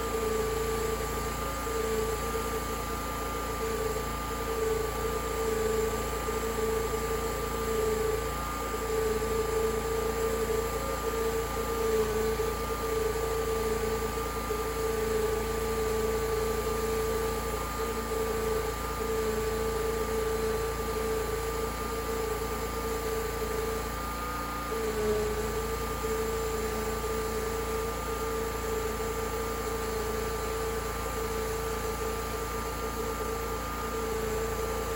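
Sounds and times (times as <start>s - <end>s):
sawmill machine humming: 0.0s - 34.9s.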